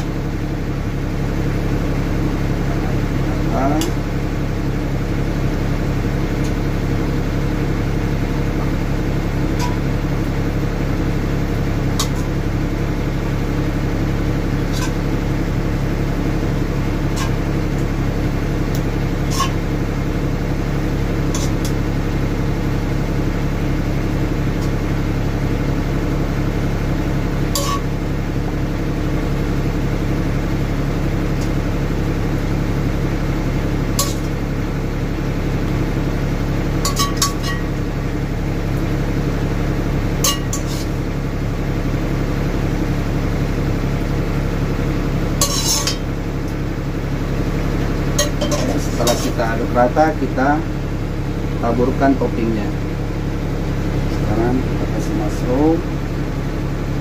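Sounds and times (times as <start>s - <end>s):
fan motor humming: 0.0s - 57.0s.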